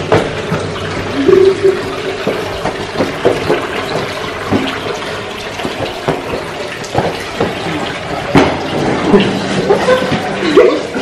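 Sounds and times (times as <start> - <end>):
water washing: 0.0 - 11.0.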